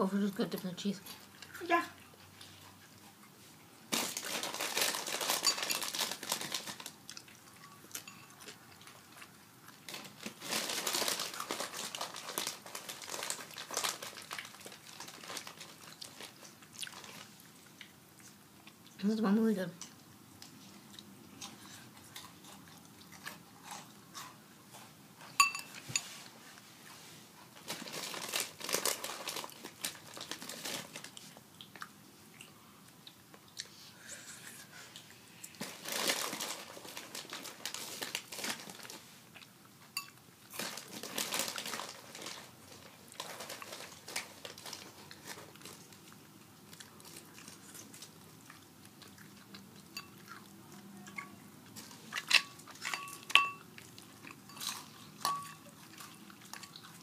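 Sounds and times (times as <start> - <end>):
chewing tortilla chips: 1.0 - 19.1, 19.8 - 26.4, 27.4 - 57.0.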